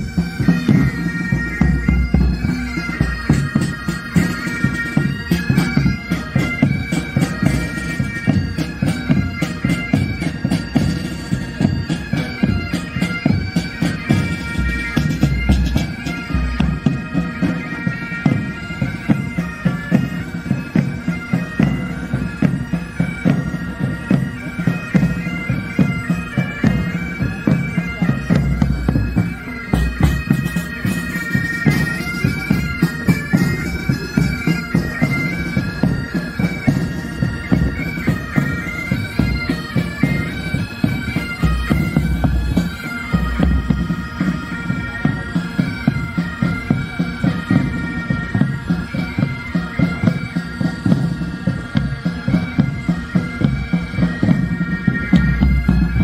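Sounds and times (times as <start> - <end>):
bagpipes playing melody: 0.0 - 56.0
drums beating: 0.0 - 56.0.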